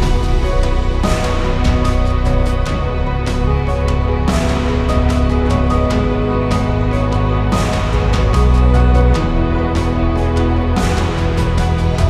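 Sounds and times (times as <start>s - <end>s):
background music with light beat: 0.0s - 12.0s.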